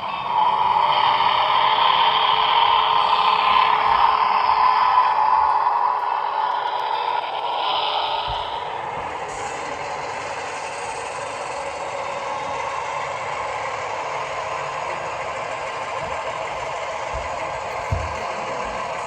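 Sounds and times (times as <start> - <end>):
model train rattling: 0.0 - 19.0.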